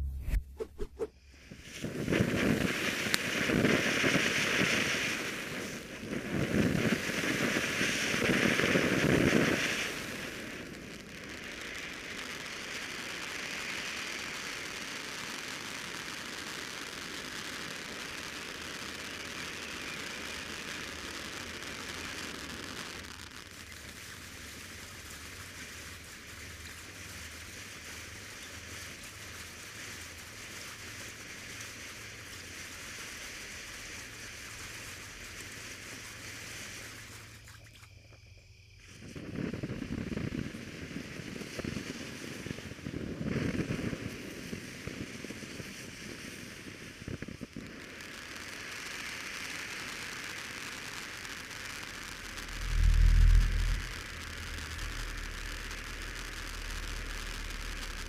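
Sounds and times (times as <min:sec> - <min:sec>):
firework fountain hissing and crackling: 0:01.1 - 0:58.0.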